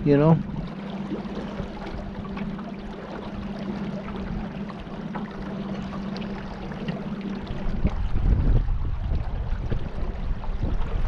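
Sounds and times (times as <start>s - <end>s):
boat motor humming: 0.0s - 11.0s
water rushing past hull: 0.0s - 11.0s.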